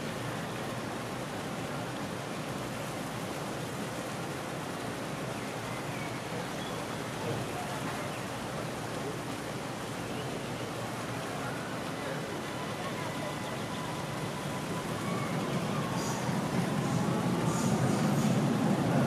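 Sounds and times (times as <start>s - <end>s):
outdoor ambient hiss: 0.0s - 19.0s.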